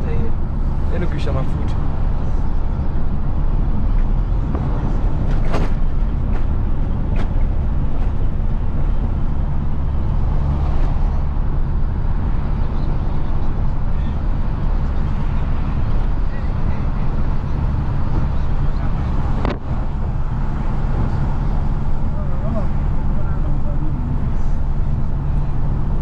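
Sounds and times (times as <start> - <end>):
truck diesel engine drone: 0.0 - 26.0.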